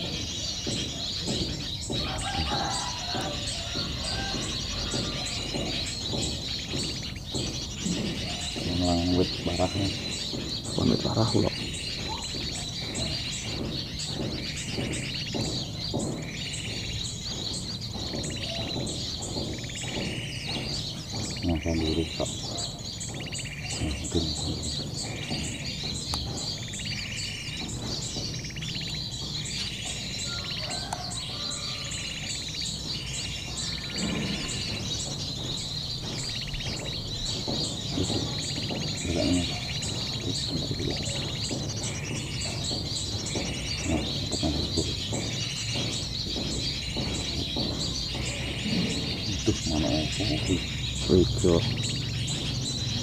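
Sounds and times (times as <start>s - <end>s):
bird call chirping phrases: 0.0s - 53.0s.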